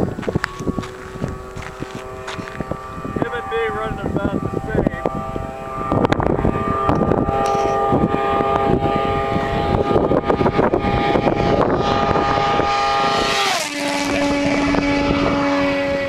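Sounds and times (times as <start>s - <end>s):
motorcycle engine at high revs: 0.0s - 16.0s
wind buffeting microphone: 0.0s - 16.0s.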